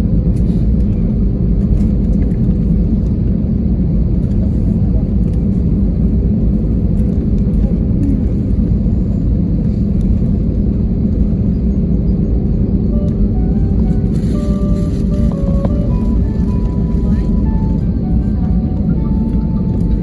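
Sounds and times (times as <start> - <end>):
low rumble of engines and wheels: 0.0 - 20.0.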